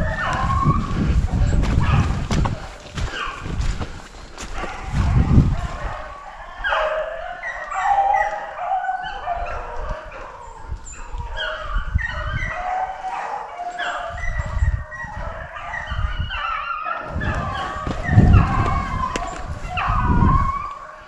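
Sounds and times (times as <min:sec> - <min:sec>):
hounds baying: 0:00.0 - 0:21.0.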